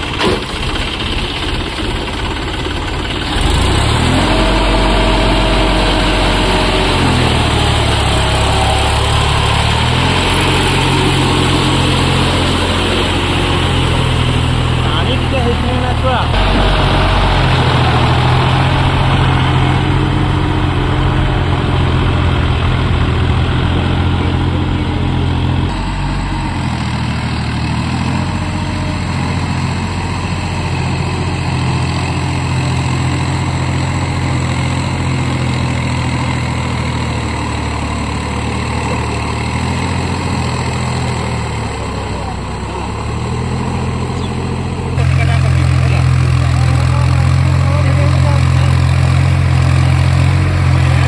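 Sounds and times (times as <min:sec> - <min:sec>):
tractor diesel engine under load: 0:00.0 - 0:51.0.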